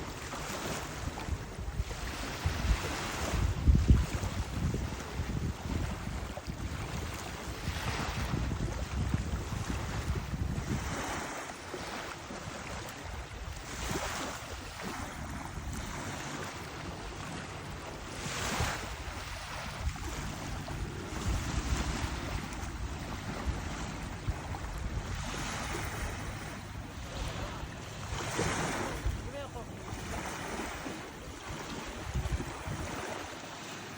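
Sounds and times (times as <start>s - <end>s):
sea waves washing onto shore: 0.0s - 33.9s
wind rumbling on microphone: 0.0s - 33.9s.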